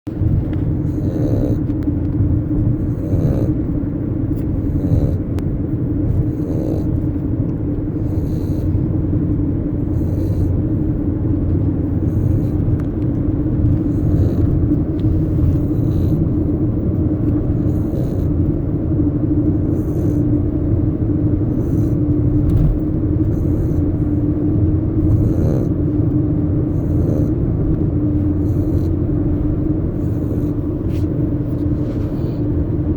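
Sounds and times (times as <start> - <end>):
continuous low rumble: 0.0 - 32.9
small dog snoring: 0.6 - 7.2, 7.8 - 9.1, 9.7 - 18.5, 19.4 - 20.8, 21.4 - 32.9.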